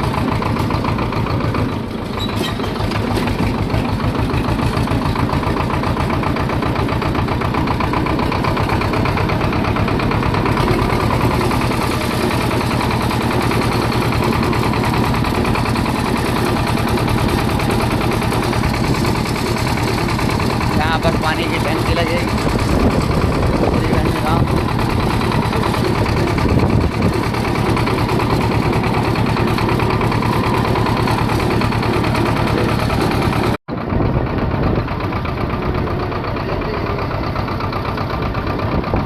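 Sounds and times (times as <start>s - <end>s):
tractor diesel engine chugging: 0.0s - 39.0s.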